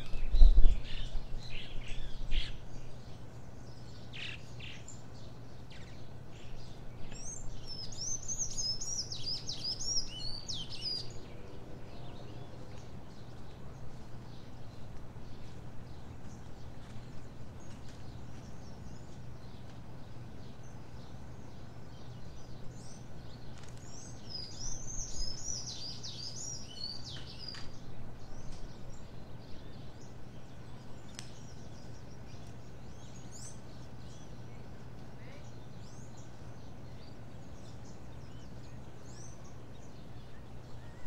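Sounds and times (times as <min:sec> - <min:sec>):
small birds chirping: 0:00.0 - 0:41.0
steady low hum: 0:00.0 - 0:41.0.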